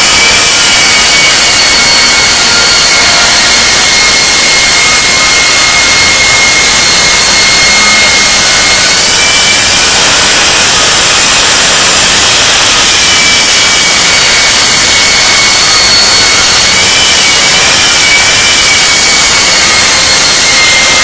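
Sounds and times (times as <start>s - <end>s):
high-pitched whine: 0.0s - 21.0s
jet engine roaring: 0.0s - 21.0s.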